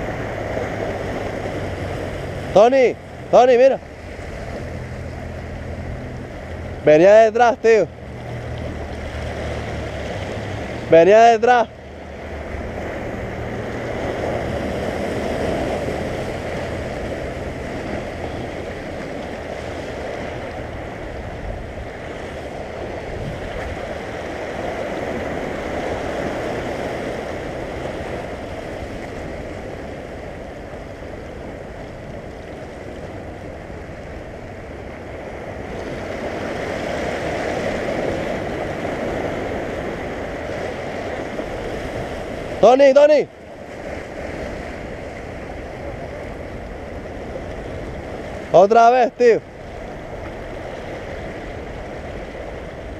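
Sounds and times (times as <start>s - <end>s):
sea surf washing over rocks: 0.0s - 52.9s.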